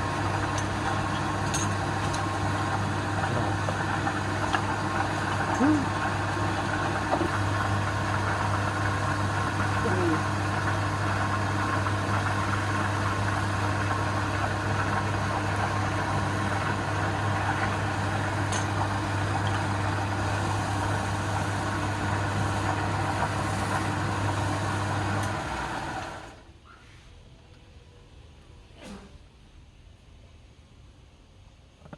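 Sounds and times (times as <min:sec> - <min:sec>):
wood lathe motor hum: 0:00.0 - 0:26.4.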